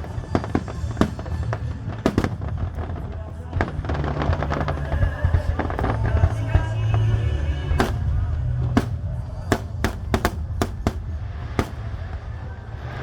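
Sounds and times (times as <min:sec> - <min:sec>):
fireworks bangs: 0:00.0 - 0:13.0
low rumble: 0:00.0 - 0:13.0.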